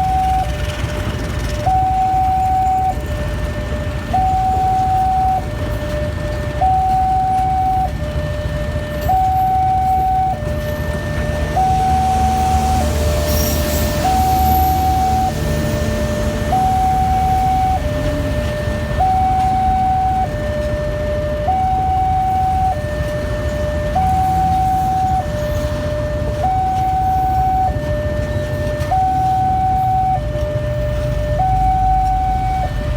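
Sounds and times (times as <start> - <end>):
slow train rumbling: 0.0 - 32.9
two-tone electronic alarm: 0.0 - 32.9.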